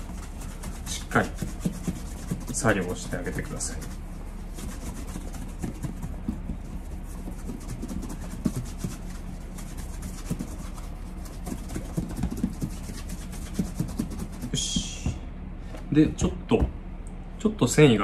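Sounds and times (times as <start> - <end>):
cloth rubbing on leather shoe: 0.0 - 15.0.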